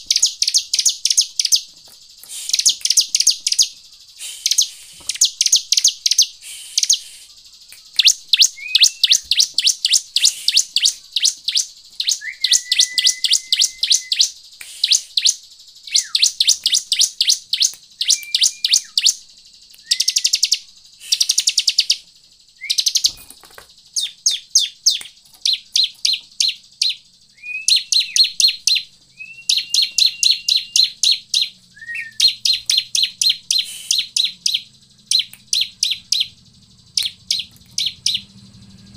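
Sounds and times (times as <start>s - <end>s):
bird trilling high chirps: 0.0s - 38.9s.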